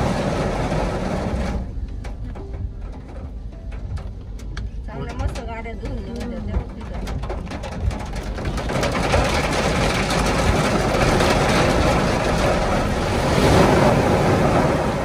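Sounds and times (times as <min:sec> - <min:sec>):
water drumming on car windshield: 0:00.0 - 0:15.0.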